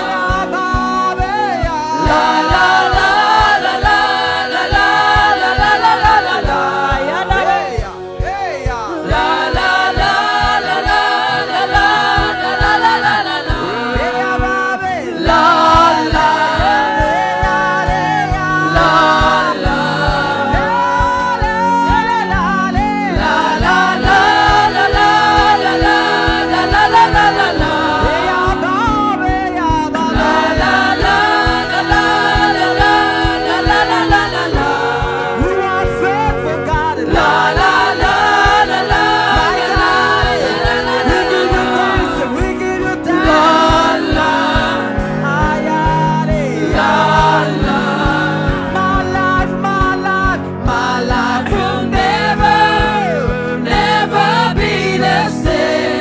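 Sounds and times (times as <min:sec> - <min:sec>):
accompaniment with steady beat: 0:00.0 - 0:56.0
choir singing gospel: 0:00.0 - 0:56.0.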